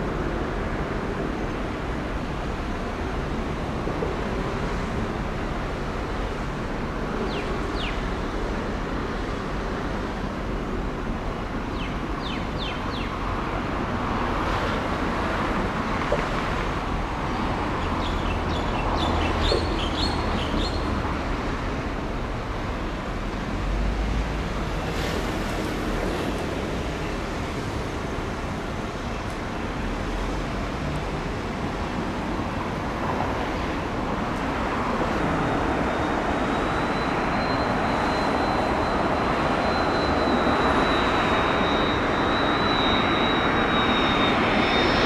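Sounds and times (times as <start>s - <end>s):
outdoor traffic: 0.0s - 45.0s
wind: 0.0s - 45.0s.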